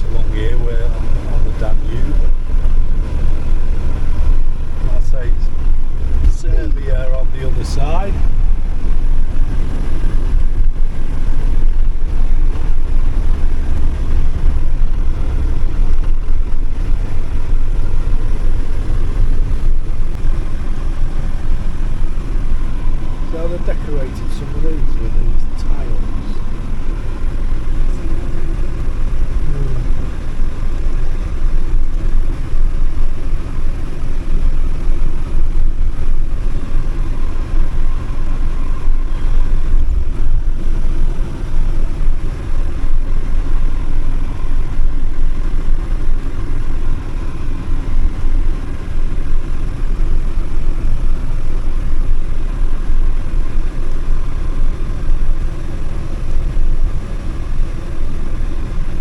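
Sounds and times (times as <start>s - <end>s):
vehicle road and engine rumble: 0.0s - 59.0s.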